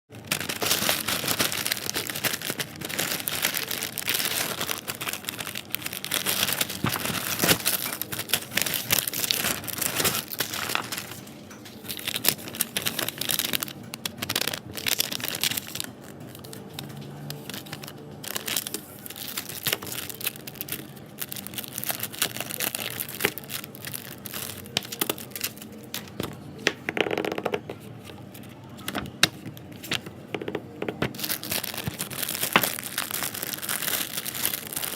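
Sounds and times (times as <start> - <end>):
packaging crinkling and rustling: 0.1 - 34.9.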